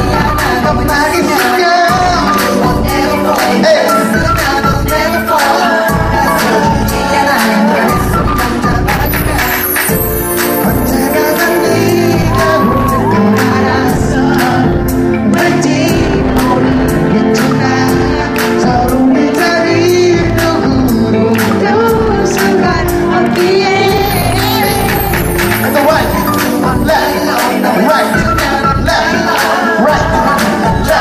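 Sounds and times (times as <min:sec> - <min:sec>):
live pop music with beat: 0:00.0 - 0:31.0
male lead vocal singing: 0:00.0 - 0:31.0.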